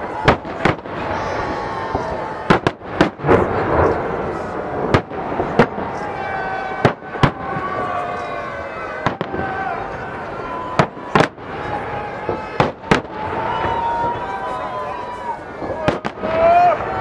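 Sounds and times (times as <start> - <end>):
continuous noisy wash: 0.0 - 17.0
fireworks bangs: 0.0 - 17.0.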